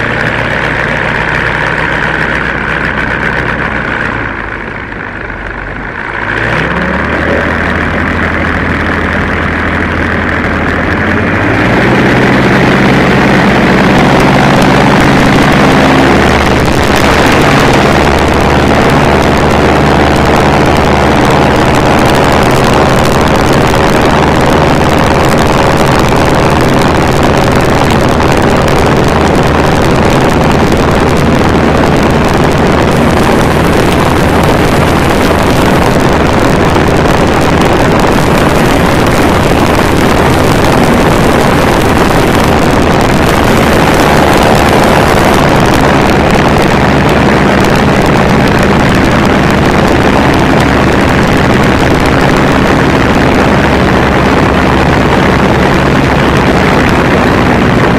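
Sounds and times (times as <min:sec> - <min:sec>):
aircraft engine and propeller: 0:00.0 - 0:57.9.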